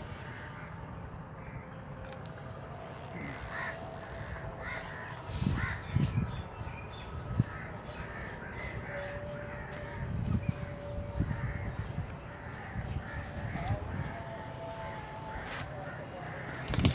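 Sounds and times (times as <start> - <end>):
birds calling: 0.0 - 16.9.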